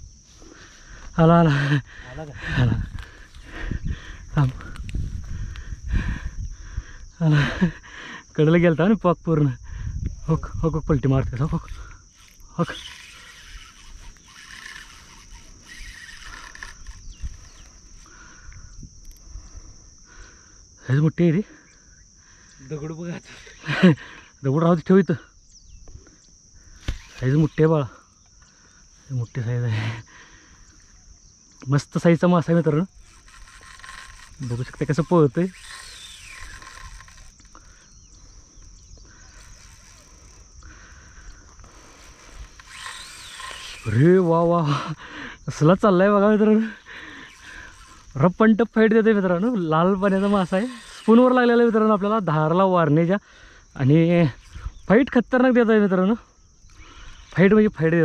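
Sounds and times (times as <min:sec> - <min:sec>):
crickets chirping: 0:00.0 - 0:58.0
insects droning: 0:00.0 - 0:58.0.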